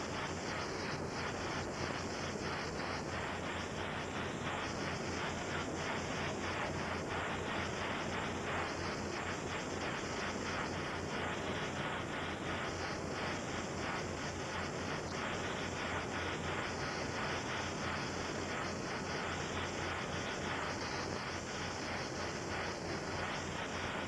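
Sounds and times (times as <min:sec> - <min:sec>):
helicopter rotor and turbine: 0:00.0 - 0:24.0
tape hiss: 0:00.0 - 0:24.0.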